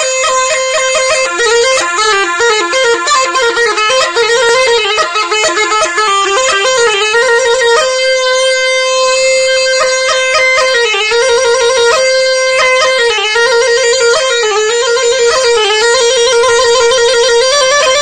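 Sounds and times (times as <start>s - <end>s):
bagpipe playing fast melody: 0.0s - 18.0s.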